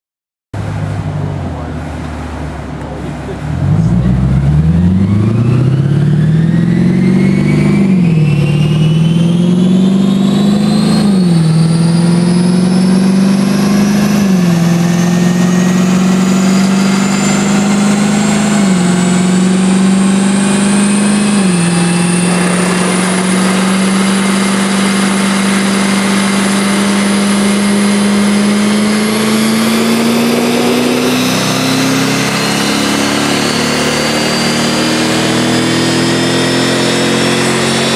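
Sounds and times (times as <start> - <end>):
car engine at full throttle: 0.6 - 37.9.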